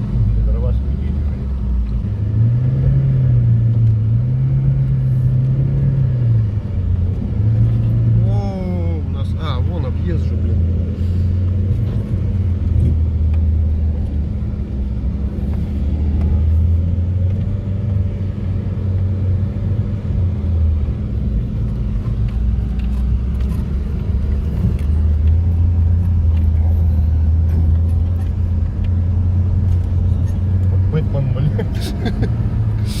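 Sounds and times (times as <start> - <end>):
road rumble: 0.0 - 33.0
vehicle engine running: 0.0 - 33.0.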